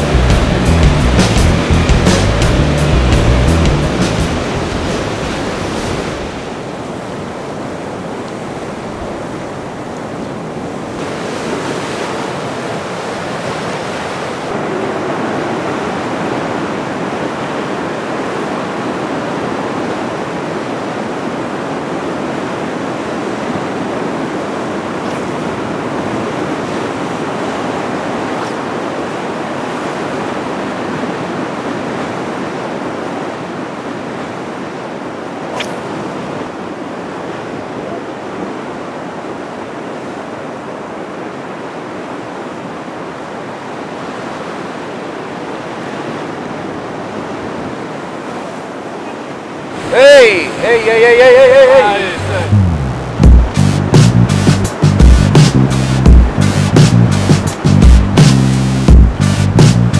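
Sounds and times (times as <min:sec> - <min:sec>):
heavy surf on rocky shore: 0:00.0 - 0:59.9.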